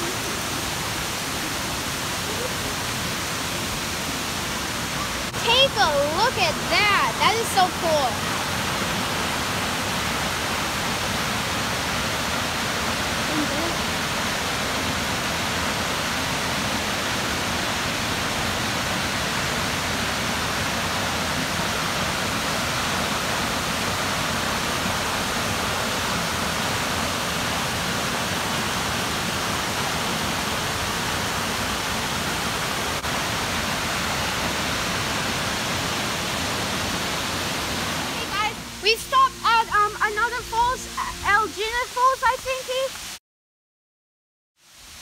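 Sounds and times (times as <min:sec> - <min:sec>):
waterfall rushing: 0:00.0 - 0:43.2.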